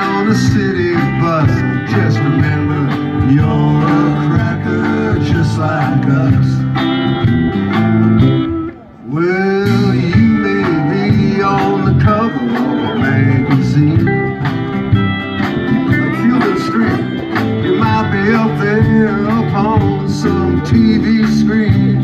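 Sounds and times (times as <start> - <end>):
country band playing: 0.0 - 22.0
pedal steel guitar: 0.0 - 22.0.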